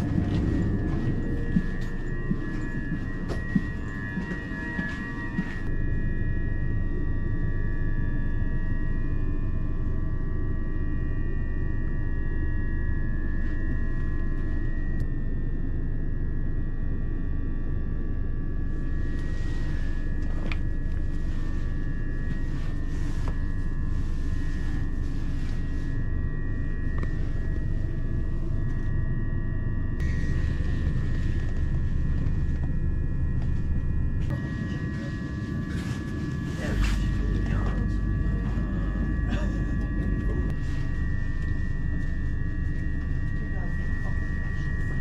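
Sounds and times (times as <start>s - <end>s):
high motor whine: 0.0s - 45.0s.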